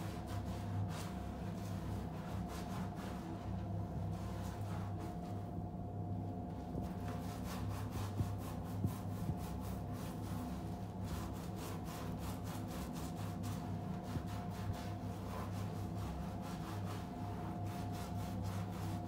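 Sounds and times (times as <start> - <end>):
bath pouf scrubbing skin: 0.0 - 5.5, 6.8 - 19.0
steady low hum: 0.0 - 19.0.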